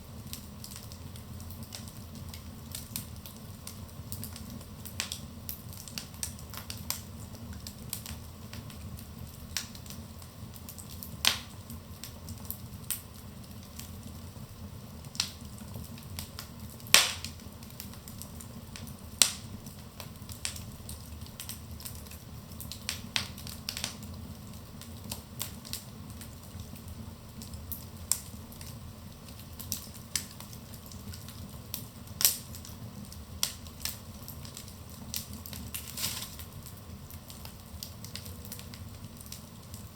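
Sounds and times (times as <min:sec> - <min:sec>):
flame rumble: 0:00.0 - 0:39.9
logs crackling and popping: 0:00.2 - 0:39.9.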